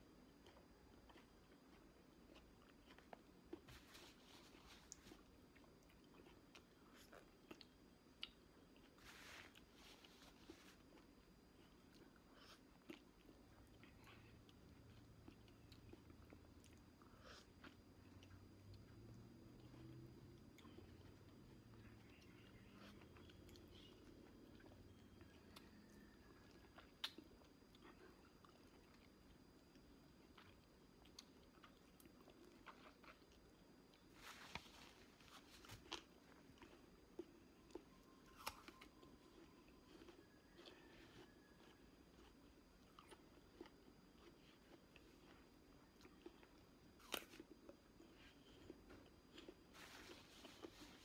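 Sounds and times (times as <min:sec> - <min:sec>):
person chewing soft fruit: 0:00.0 - 0:51.0.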